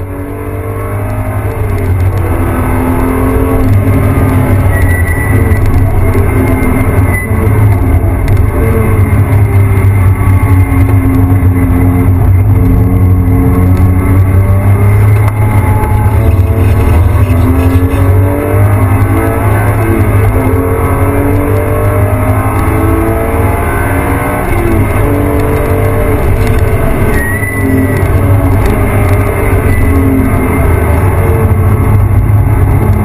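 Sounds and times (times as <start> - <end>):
car engine running hard: 0.0 - 33.0.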